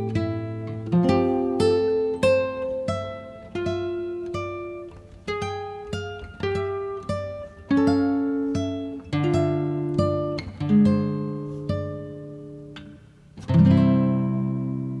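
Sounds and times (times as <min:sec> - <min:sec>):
acoustic guitar plucking: 0:00.0 - 0:15.0.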